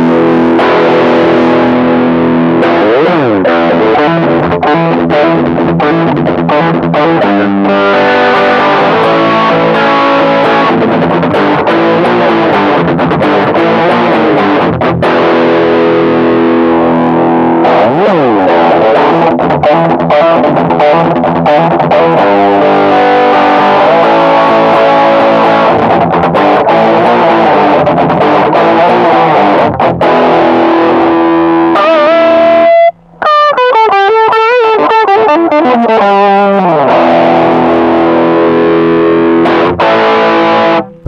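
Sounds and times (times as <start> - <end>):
distorted electric guitar: 0.0 - 41.0.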